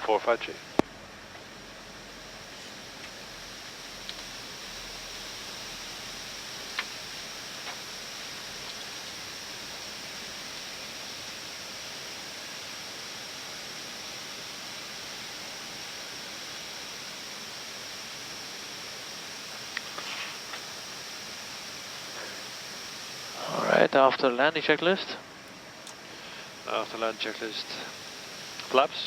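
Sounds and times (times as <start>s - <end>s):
cockpit background hiss: 0.0s - 29.0s.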